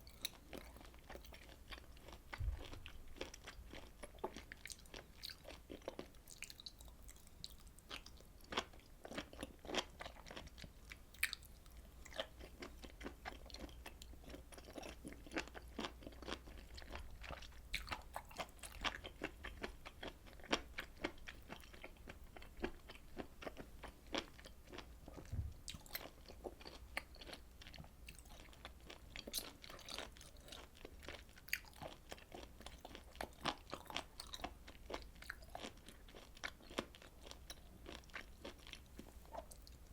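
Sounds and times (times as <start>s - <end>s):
close chewing of chewy meat: 0.0s - 39.9s.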